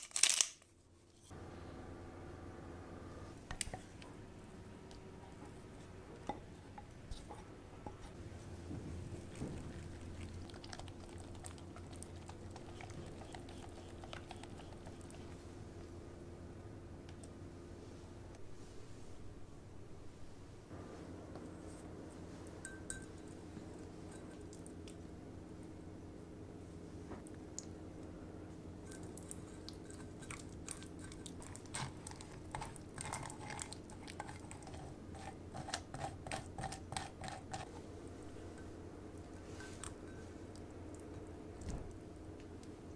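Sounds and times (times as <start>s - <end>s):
steady low hum: 0.8s - 42.9s.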